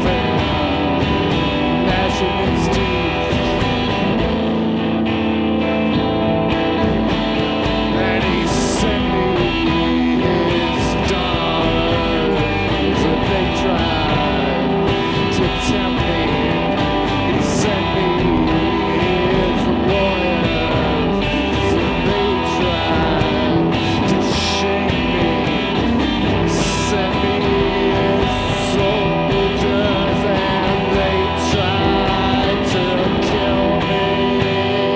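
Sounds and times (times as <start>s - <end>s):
live guitar music: 0.0s - 34.9s
sliding guitar melody: 0.0s - 34.9s.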